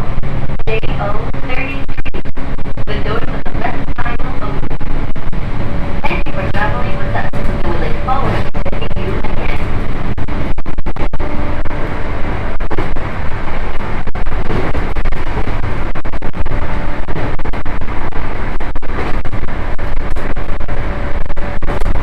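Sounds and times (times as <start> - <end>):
train wheels rumbling on rails: 0.0 - 10.6, 11.2 - 22.0
traction motor hum: 0.0 - 22.0.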